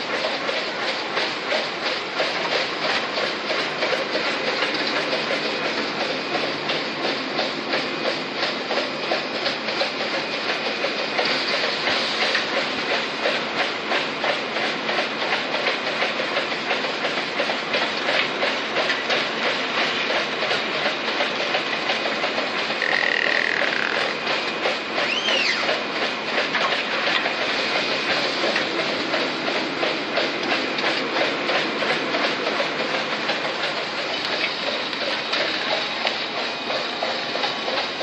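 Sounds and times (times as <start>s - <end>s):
machine clatter of rapid ticks: 0.0s - 38.0s.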